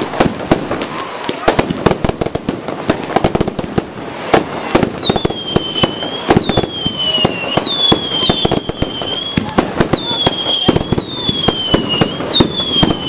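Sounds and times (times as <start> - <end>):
firework bangs and crackles: 0.0 - 13.0
whistling fireworks: 0.0 - 13.0.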